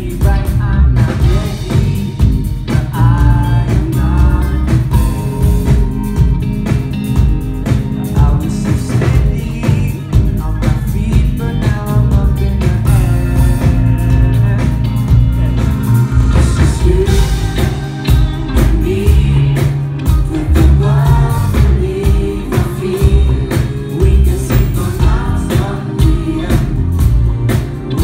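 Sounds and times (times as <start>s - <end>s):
man singing: 0.0s - 5.5s, 7.9s - 27.3s
live pop band playing: 0.0s - 28.0s.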